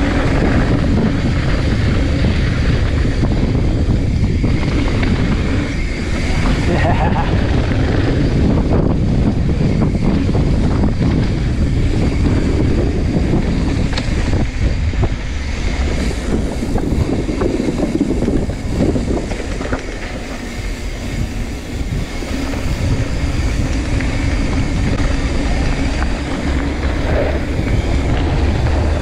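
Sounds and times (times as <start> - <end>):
bike tyres on rocky trail: 0.0 - 29.0
wind rushing over microphone: 0.0 - 29.0.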